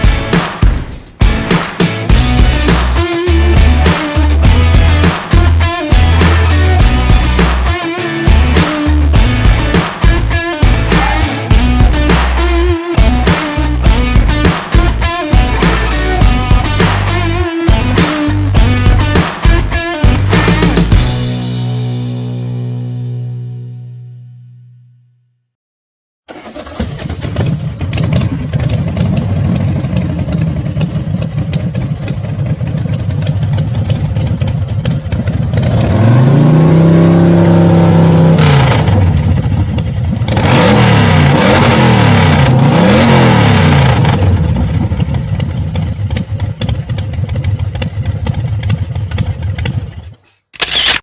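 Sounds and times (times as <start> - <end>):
motorcycle engine revving: 0.0 - 23.0, 26.3 - 50.2.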